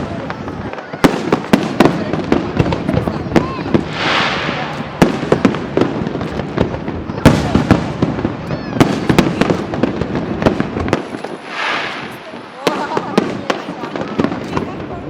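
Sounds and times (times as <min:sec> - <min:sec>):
fireworks bangs and crackles: 0:00.0 - 0:15.0
fireworks hissing rush: 0:00.0 - 0:15.0.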